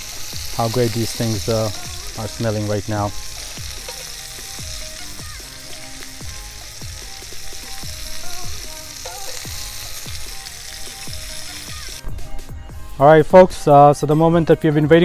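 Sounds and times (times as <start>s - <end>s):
food sizzling in oil: 0.0s - 12.4s.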